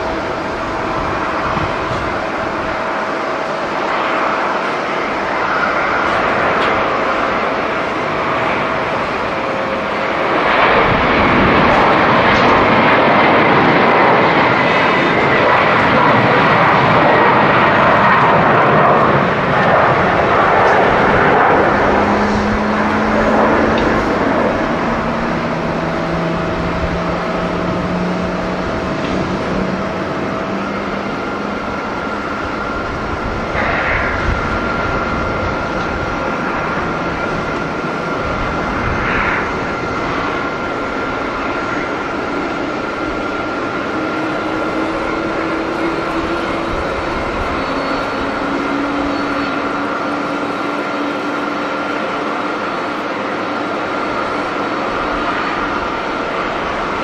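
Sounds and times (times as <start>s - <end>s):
faint whining tones: 0.0s - 57.0s
jet airliner taking off: 0.0s - 57.0s.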